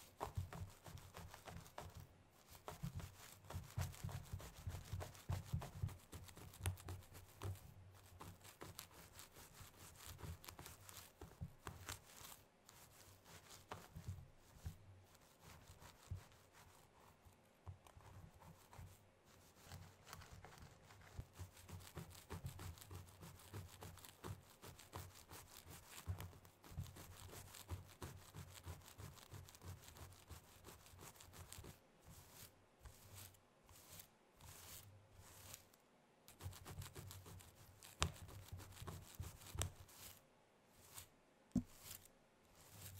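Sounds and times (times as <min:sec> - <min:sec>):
fingernails scratching scalp: 0:00.1 - 0:16.9, 0:17.9 - 0:40.2, 0:40.8 - 0:42.9.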